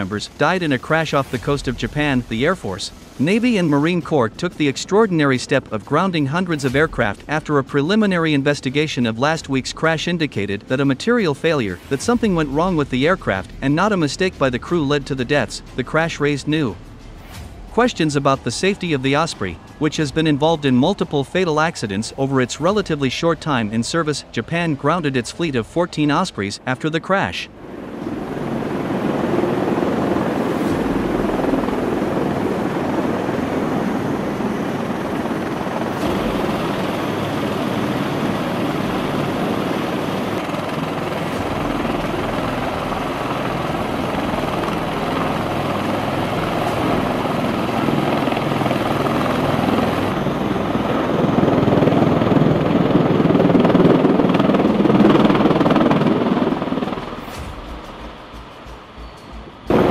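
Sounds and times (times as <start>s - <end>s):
tiltrotor aircraft hovering: 0.0s - 59.9s.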